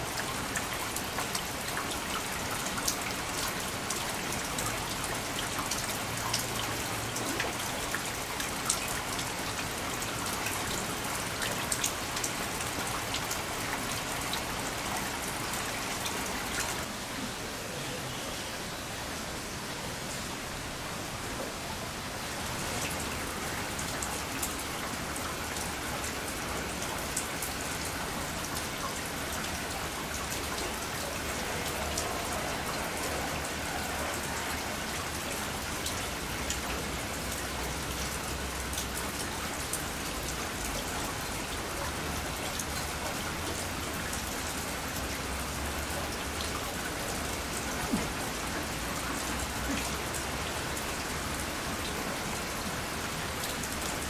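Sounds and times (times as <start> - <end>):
raindrops ticking close by: 0.0 - 16.9, 22.1 - 54.0
heavy rain hissing: 0.0 - 54.0.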